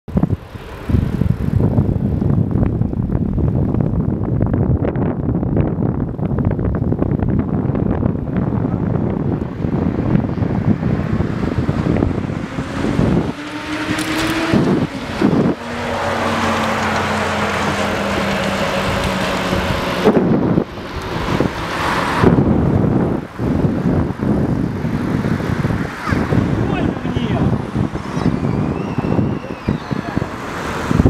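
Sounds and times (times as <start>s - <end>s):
road traffic: 0.1s - 31.0s
wind rushing over microphone: 0.1s - 31.0s.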